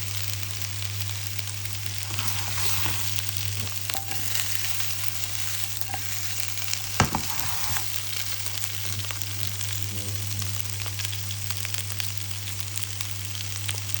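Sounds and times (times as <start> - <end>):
potatoes sizzling in a pan: 0.0 - 14.0.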